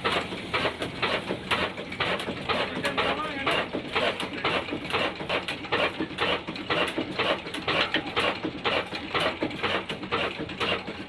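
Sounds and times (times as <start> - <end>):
diesel engine clattering: 0.0 - 11.0.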